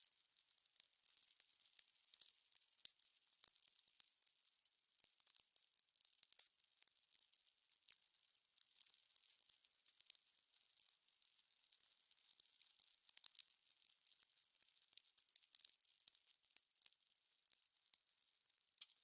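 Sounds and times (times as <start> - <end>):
fire crackling with pops: 0.0 - 19.0.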